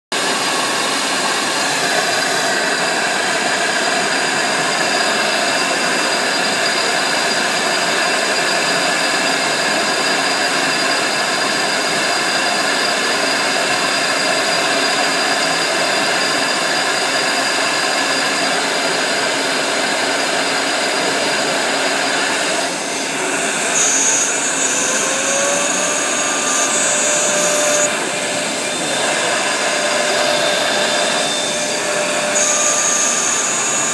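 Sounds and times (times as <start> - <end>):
cutting machine whine and rush: 0.1 - 33.9.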